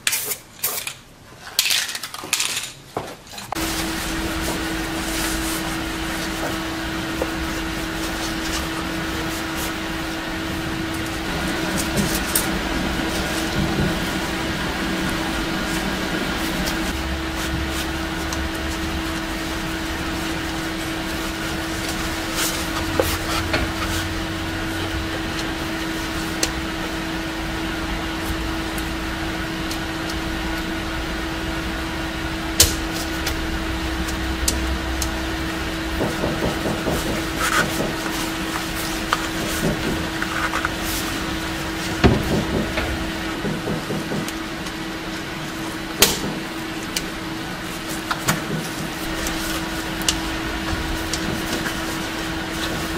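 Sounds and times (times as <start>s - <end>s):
steady machine hum: 2.1s - 52.9s.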